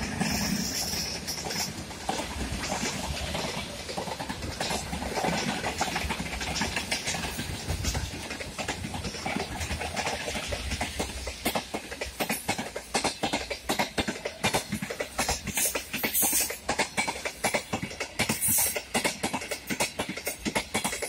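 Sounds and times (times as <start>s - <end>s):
train wheels rumbling on rails: 0.0s - 21.0s
wheels clicking over rail joints: 0.0s - 21.0s.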